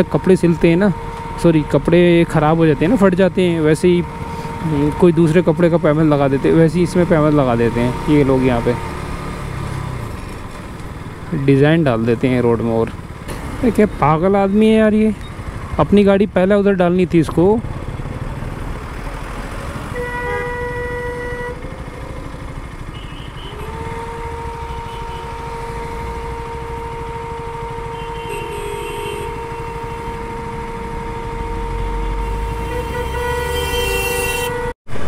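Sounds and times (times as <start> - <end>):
vehicle horns: 0.0 - 15.2, 19.8 - 34.8
low engine rumble: 0.0 - 34.6.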